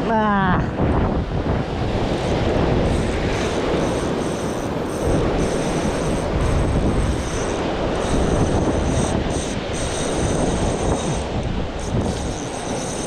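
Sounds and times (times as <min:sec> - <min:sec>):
wind buffeting microphone: 0:00.0 - 0:13.0
surf washing against rocks: 0:00.9 - 0:13.0.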